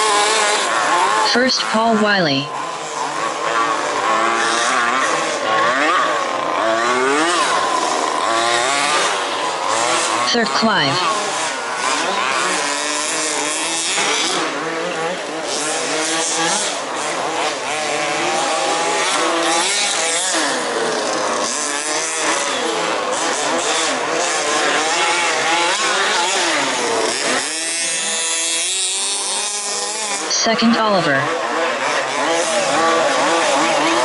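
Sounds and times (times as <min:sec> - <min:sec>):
small two-stroke engines revving: 0:00.0 - 0:34.0.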